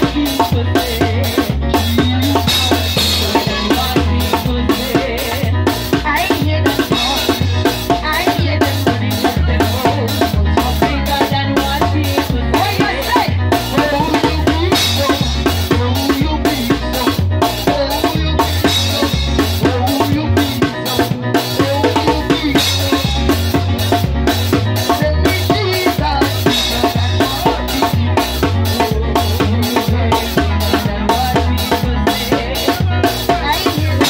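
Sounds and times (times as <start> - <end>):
live band playing: 0.0 - 34.0
snare and bass drum beat: 0.0 - 34.0.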